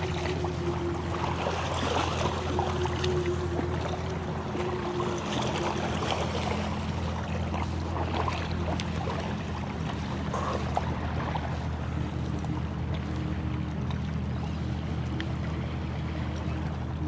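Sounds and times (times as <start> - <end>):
low engine hum: 0.0 - 17.0
water noise: 0.0 - 17.0
wind: 0.0 - 17.0.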